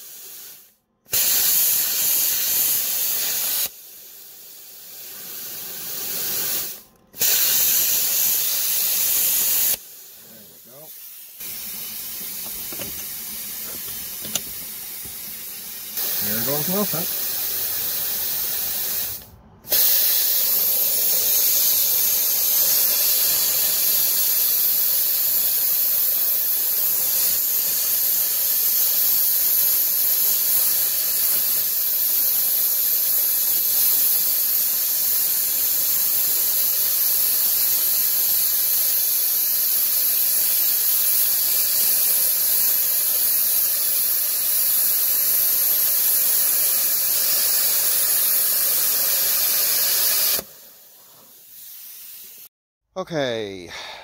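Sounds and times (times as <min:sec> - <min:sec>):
plasma cutter hissing: 0:00.0 - 0:52.5.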